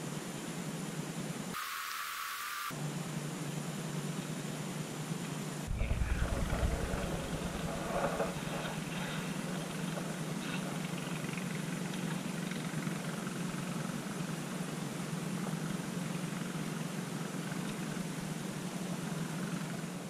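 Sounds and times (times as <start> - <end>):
engine droning with hiss: 0.0 - 20.0.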